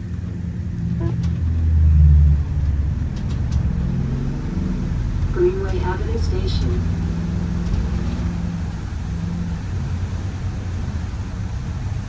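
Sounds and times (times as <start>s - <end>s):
bus engine humming: 0.0s - 12.0s
faint clicks and rattles: 0.1s - 12.0s.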